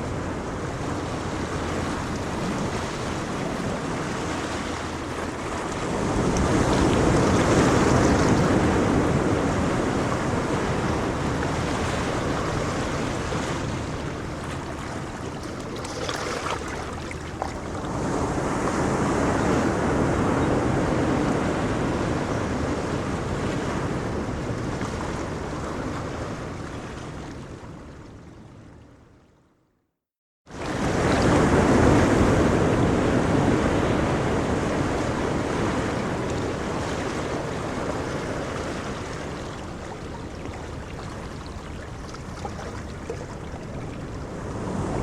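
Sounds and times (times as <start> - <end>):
ocean waves washing onto shore: 0.0 - 28.0, 30.5 - 45.0.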